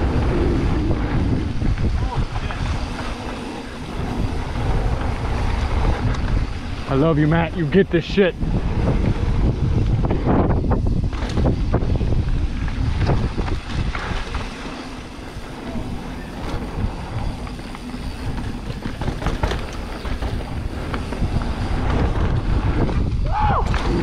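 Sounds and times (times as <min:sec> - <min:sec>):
bike rattling and knocking: 0:00.0 - 0:24.0
tyres rumbling over dirt: 0:00.0 - 0:24.0
wind on microphone: 0:00.0 - 0:24.0.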